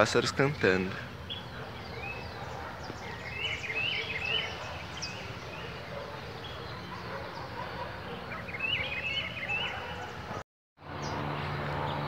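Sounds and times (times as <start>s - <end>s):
birds chirping and singing: 0.0s - 12.0s
low outdoor background: 0.0s - 12.0s.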